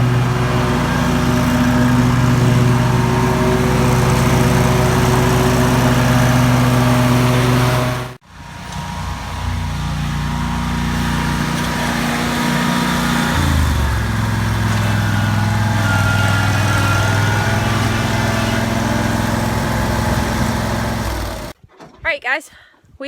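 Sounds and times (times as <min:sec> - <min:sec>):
engine running: 0:00.0 - 0:21.6.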